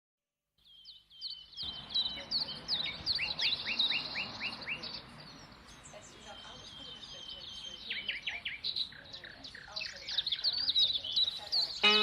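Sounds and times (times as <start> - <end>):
songbirds chirping and singing: 0.6 - 12.0.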